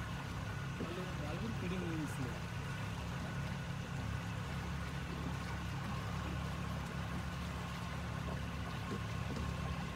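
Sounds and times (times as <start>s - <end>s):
boat engine droning: 0.0s - 9.9s
faint steady whine: 0.0s - 9.9s.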